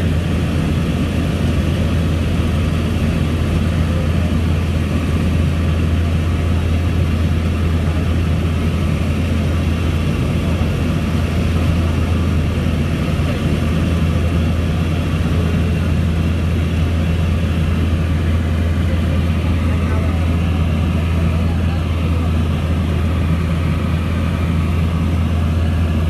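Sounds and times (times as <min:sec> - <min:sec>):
airplane cabin engine drone: 0:00.0 - 0:26.0.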